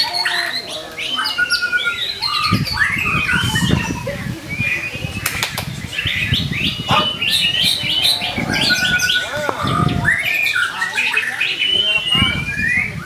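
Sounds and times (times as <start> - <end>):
songbird singing whistles: 0.0 - 13.0.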